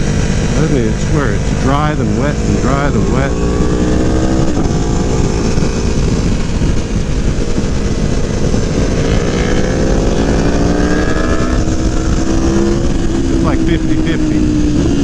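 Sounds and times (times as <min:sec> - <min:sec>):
heavy wind noise: 0:00.0 - 0:15.0
motorcycle engine accelerating: 0:00.0 - 0:15.0.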